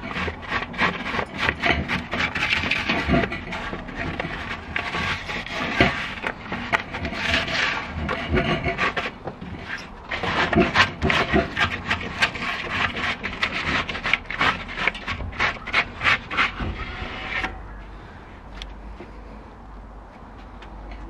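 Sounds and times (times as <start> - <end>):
gloved hand scrubbing metal bowl: 0.0 - 17.5.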